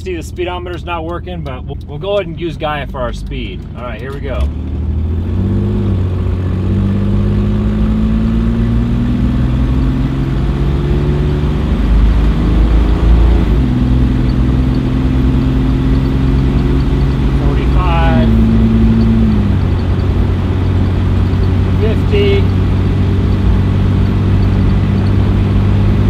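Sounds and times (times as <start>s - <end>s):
engine accelerating at full throttle: 4.3s - 26.0s.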